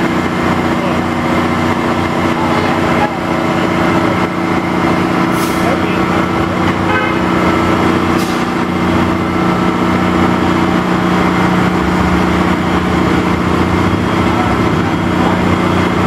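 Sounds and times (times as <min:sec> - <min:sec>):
crane engine humming: 0:00.0 - 0:16.0.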